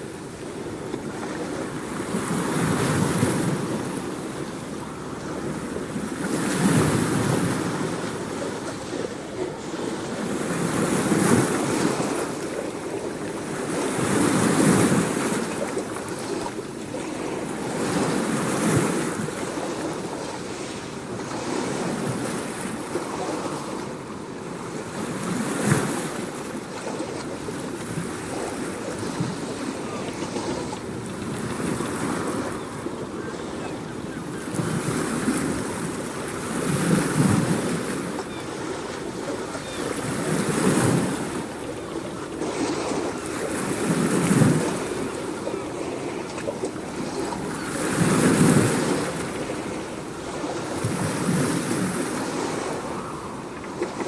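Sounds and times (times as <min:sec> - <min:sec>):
waves washing in: 0:00.0 - 0:54.0.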